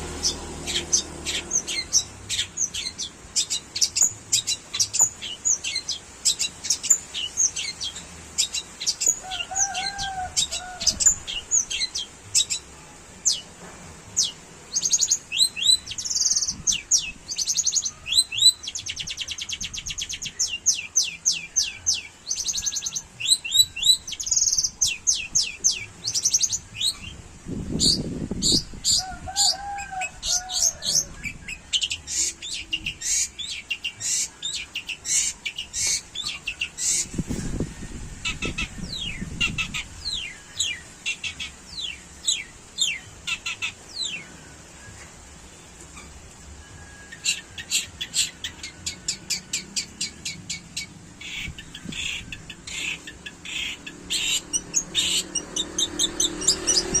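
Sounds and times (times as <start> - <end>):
shrike singing chirps and trills: 0.0 - 13.5, 14.1 - 57.0.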